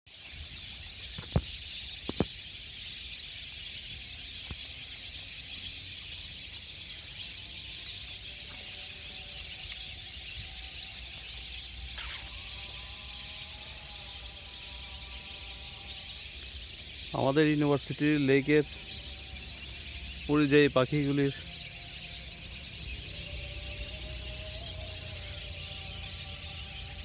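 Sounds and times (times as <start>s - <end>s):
chorus of small creatures: 0.1s - 27.0s.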